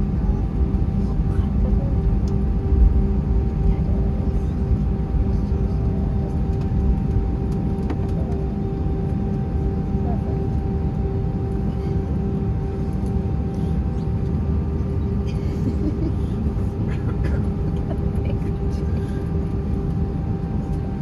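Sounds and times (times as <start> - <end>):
airplane engine hum: 0.0 - 21.0.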